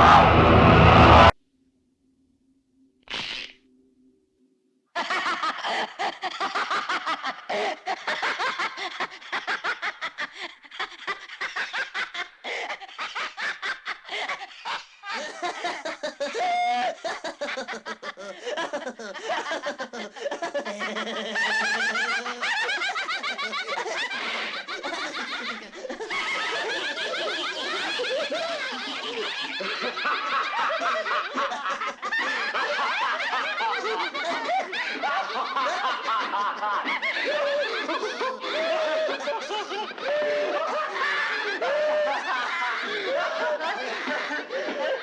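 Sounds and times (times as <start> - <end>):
voices cackling and laughing: 5.0 - 45.0.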